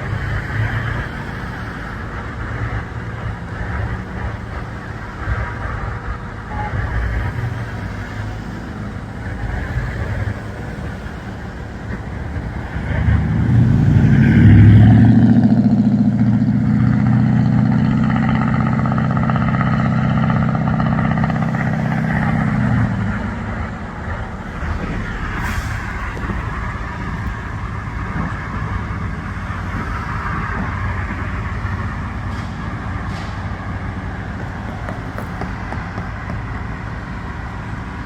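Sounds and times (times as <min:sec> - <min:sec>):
low street rumble: 0:00.0 - 0:38.0
vehicle engine running: 0:00.0 - 0:38.0.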